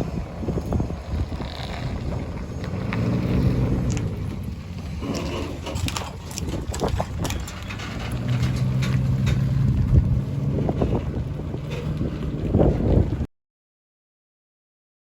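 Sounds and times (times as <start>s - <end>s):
large engine humming: 0.0s - 13.3s
wind buffeting microphone: 0.0s - 13.3s.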